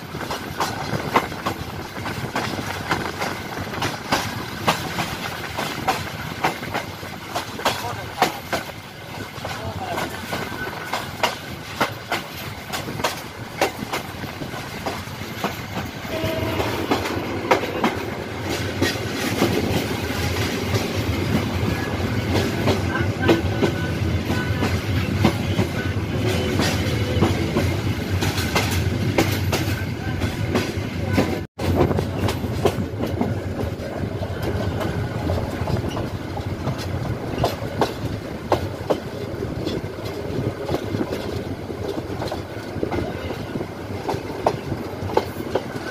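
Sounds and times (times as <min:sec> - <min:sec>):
train rumbling with wheels clicking: 0:00.0 - 0:45.9.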